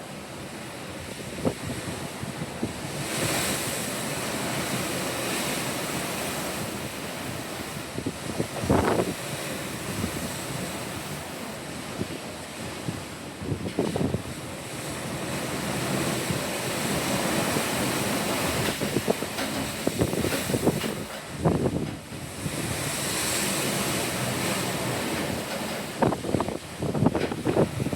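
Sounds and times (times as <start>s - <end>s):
ocean waves washing: 0.0s - 27.9s
wind buffeting microphone: 1.0s - 27.9s.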